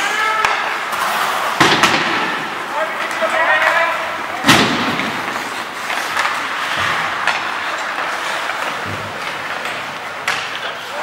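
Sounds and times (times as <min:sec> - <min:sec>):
skates scraping on ice: 0:00.0 - 0:11.0.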